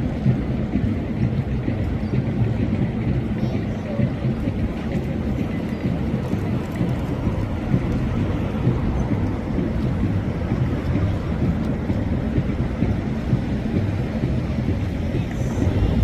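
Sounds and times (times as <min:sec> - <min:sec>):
boat engine rumbling: 0:00.0 - 0:16.0
wind buffeting microphone: 0:00.0 - 0:16.0.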